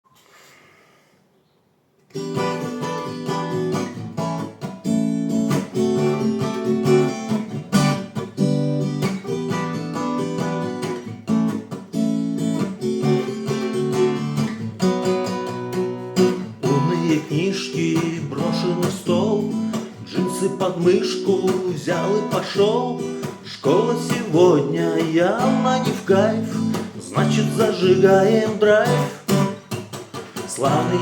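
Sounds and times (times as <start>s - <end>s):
acoustic guitar strumming: 2.1s - 31.0s.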